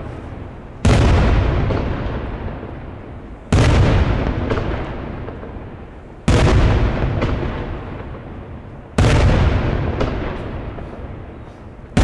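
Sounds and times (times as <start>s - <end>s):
firework booms with rolling echo: 0.0s - 12.0s.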